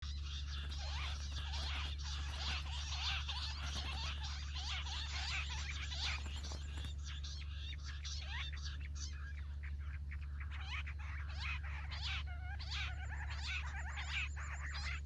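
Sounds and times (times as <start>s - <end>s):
quail chirping chorus: 0.0s - 15.0s
steady low hum: 0.0s - 15.0s.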